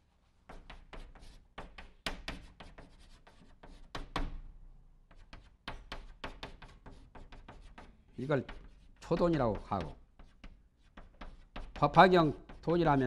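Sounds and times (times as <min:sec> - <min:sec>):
chalk writing on blackboard: 0:00.3 - 0:04.4, 0:05.1 - 0:13.0.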